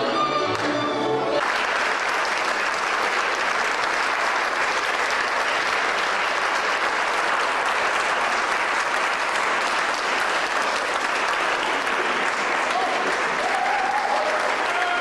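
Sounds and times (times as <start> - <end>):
audience applauding: 0.5 - 15.0.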